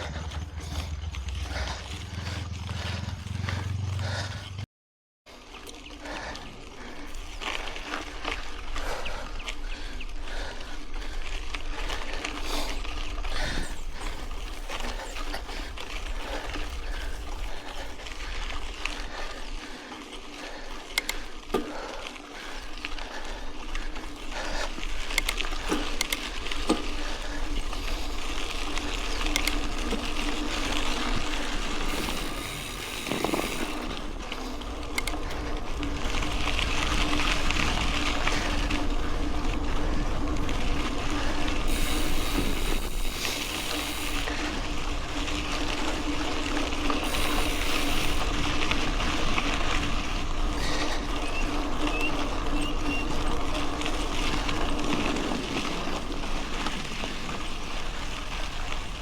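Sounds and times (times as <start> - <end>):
bike clicks and rattles: 0.0 - 4.6, 5.3 - 59.0
bike tyres on gravel: 0.0 - 4.6, 5.3 - 59.0.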